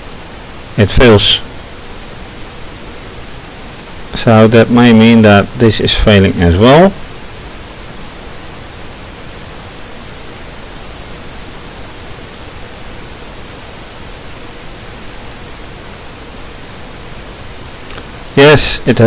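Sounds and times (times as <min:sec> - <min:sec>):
faint steady hum: 0:00.0 - 0:19.0
steady hiss: 0:00.0 - 0:19.0.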